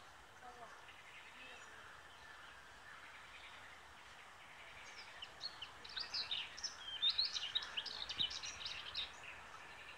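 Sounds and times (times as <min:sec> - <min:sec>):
faint outdoor hiss: 0:00.0 - 0:09.9
songbird singing: 0:00.0 - 0:09.9.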